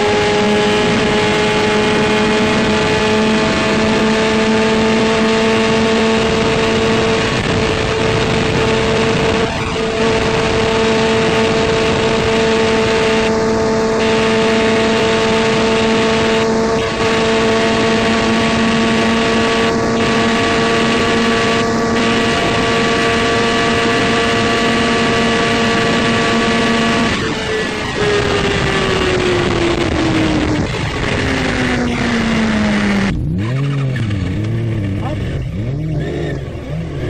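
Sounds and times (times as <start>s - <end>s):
loud wind rush: 0.0s - 33.7s
motorcycle engine running flat out: 0.0s - 37.0s.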